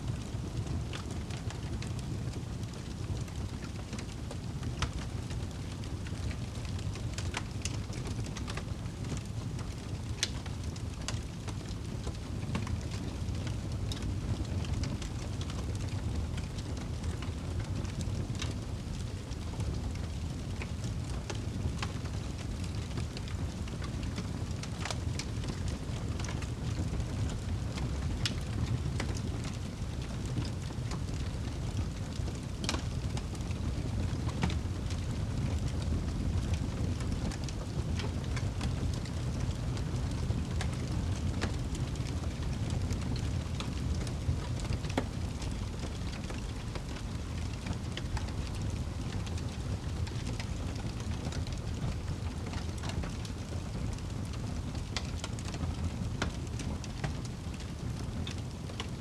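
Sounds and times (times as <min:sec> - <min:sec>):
fire rumbling: 0:00.0 - 0:59.0
fire crackling and popping: 0:00.1 - 0:59.0.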